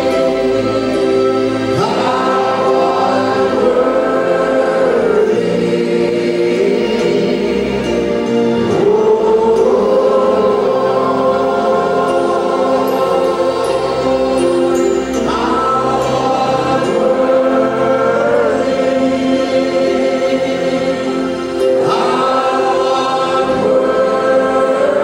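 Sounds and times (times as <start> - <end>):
congregation singing: 0.0 - 25.0
musical accompaniment: 0.0 - 25.0.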